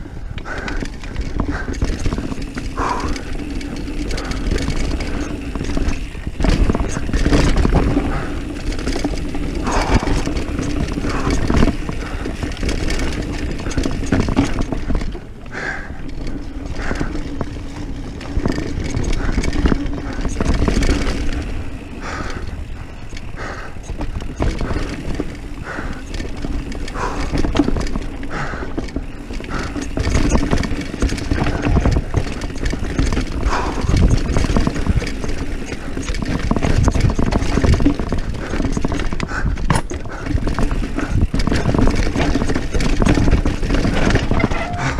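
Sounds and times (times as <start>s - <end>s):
bike rattling and knocking: 0.0s - 44.9s.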